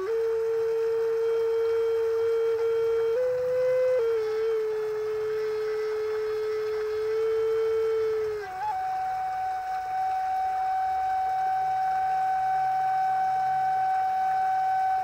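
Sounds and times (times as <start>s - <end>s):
wooden flute melody: 0.0s - 15.0s.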